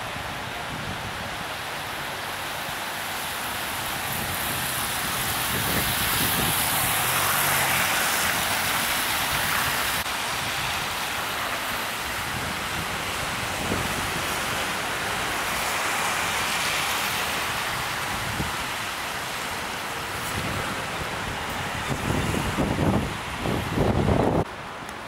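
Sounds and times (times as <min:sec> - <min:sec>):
tyres hissing on wet road: 0:00.0 - 0:25.0.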